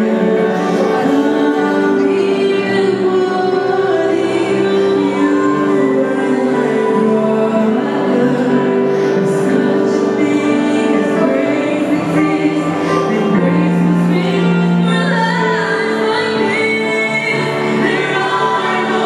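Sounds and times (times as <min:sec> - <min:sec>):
a cappella group singing in harmony: 0:00.0 - 0:19.0.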